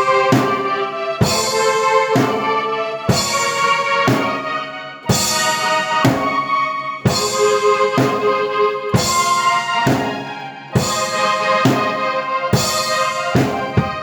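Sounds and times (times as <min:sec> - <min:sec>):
heavy drum hits: 0:00.0 - 0:04.5, 0:05.1 - 0:06.5, 0:07.1 - 0:08.4, 0:09.0 - 0:14.0
sustained keyboard chords: 0:00.0 - 0:14.0.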